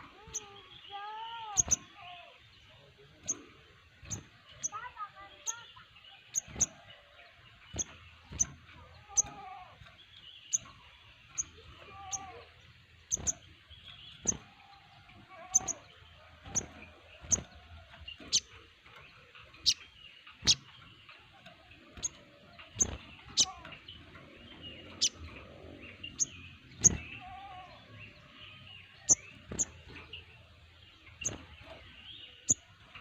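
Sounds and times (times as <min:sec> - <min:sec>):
birds chirping sharply: 0:00.0 - 0:33.0
birds warbling softly: 0:00.0 - 0:33.0.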